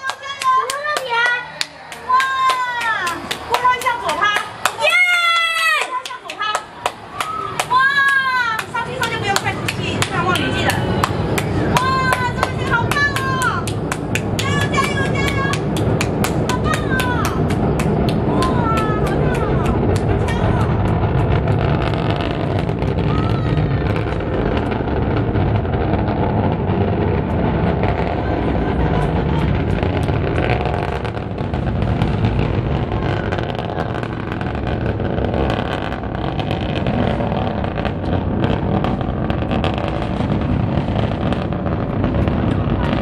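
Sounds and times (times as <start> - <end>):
rocket engines roaring: 0.0 - 43.0.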